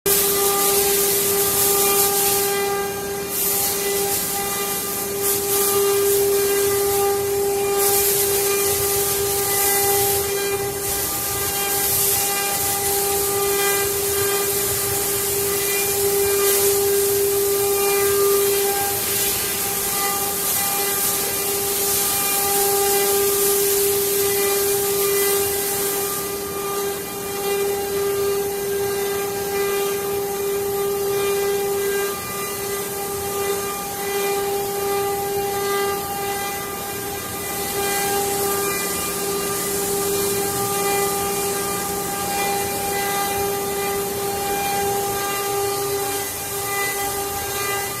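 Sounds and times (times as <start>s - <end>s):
hiss of wood cutting: 0.1s - 48.0s
router spindle whine: 0.1s - 48.0s.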